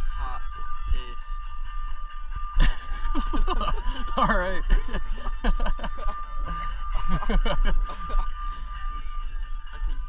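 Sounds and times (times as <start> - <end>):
man's voice: 0.0 - 1.5, 2.6 - 10.0
steady low rumble: 0.0 - 10.0.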